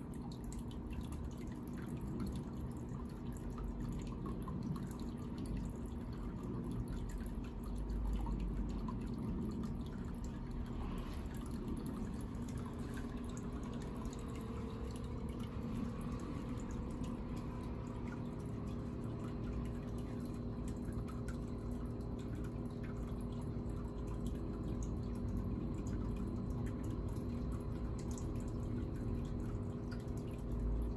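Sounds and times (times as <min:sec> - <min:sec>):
faint steady hum: 0:00.0 - 0:30.9
water dripping into tub: 0:00.0 - 0:30.9.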